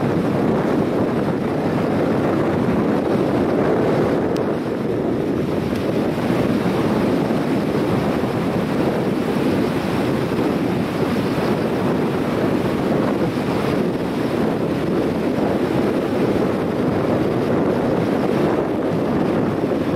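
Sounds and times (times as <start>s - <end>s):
flooded river rushing: 0.0s - 19.9s
wind buffeting microphone: 0.0s - 19.9s.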